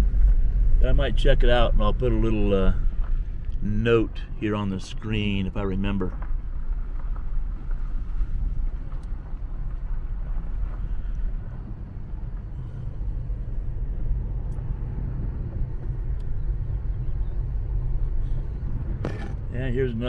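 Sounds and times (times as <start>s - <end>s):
tyres rumbling on gravel: 0.0s - 20.0s.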